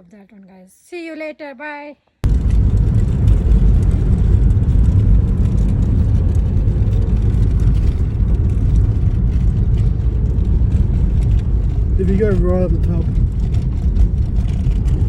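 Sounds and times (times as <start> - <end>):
low rumbling noise: 2.2 - 15.0.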